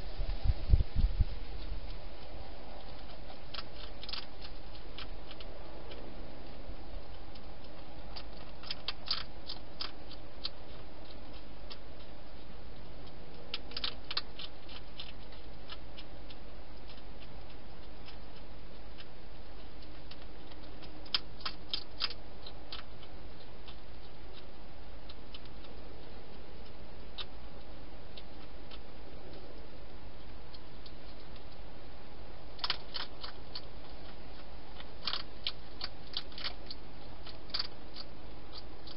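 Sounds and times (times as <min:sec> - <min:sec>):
steady low hum: 0:00.0 - 0:38.9
hedgehog chewing clicks and crunches: 0:01.0 - 0:38.9.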